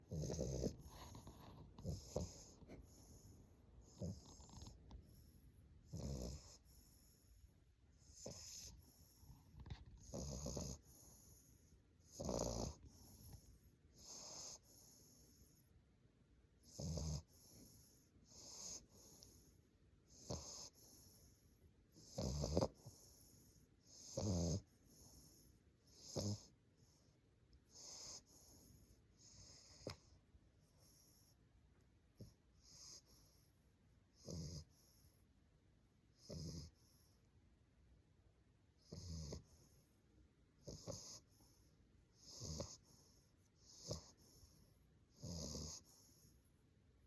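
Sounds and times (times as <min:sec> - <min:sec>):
puppy snoring: 0:00.0 - 0:15.7, 0:16.6 - 0:31.4, 0:32.1 - 0:33.5, 0:34.1 - 0:35.2, 0:36.1 - 0:37.2, 0:38.7 - 0:39.9, 0:40.6 - 0:46.4.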